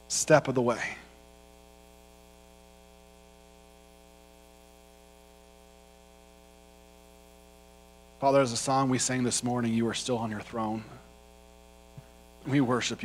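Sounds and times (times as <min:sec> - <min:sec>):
faint electrical mains hum: 0:00.0 - 0:13.0.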